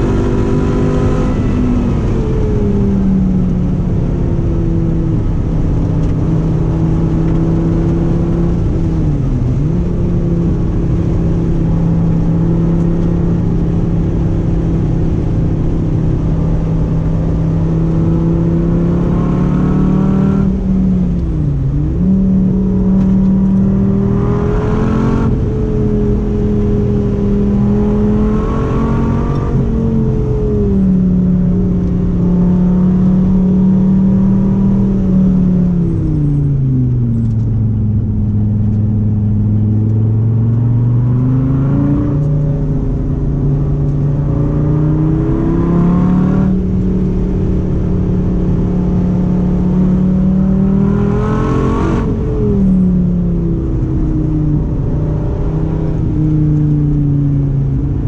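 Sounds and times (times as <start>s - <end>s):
sports car engine revving: 0.0s - 58.0s.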